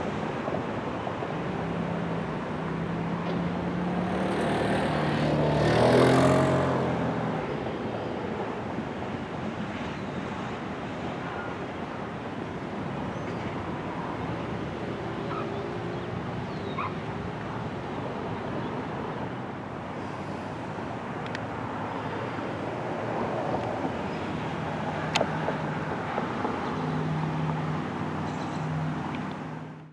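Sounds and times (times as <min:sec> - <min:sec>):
highway traffic rumble: 0:00.0 - 0:29.9.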